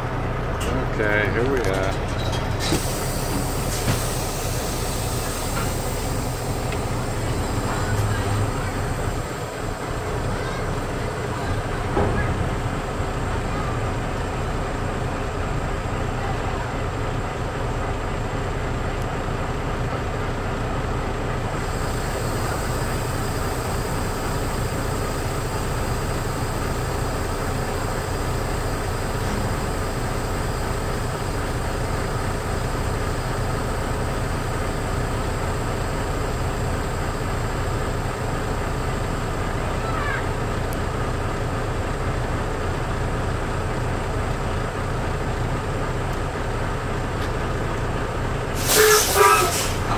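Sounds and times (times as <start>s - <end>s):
diesel engine rumble: 0.0s - 49.9s.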